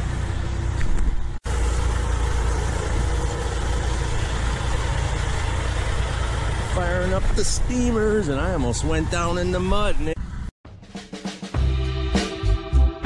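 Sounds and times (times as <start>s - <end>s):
low engine rumble: 0.0s - 10.5s.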